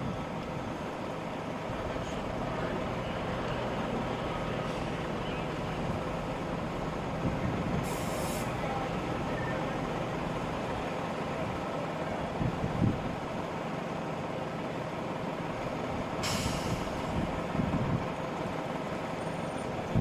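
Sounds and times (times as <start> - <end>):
emergency vehicles idling: 0.0 - 20.0.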